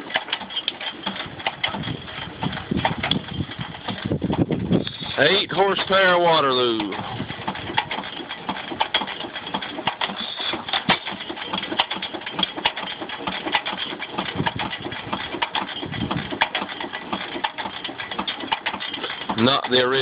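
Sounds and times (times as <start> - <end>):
stationary gas engine idling: 0.0 - 20.0.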